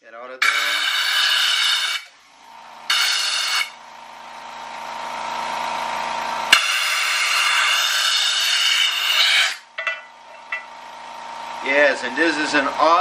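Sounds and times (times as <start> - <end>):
air compressor running: 0.4 - 13.0.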